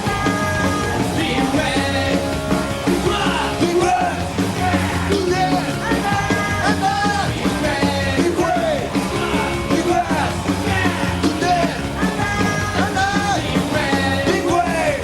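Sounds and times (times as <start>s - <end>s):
loud rock music with vocals: 0.0s - 15.0s.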